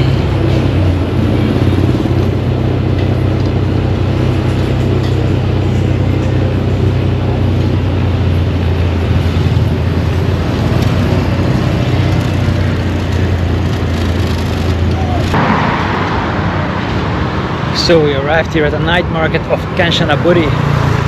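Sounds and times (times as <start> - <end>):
motor scooter rumbling: 0.0 - 21.0.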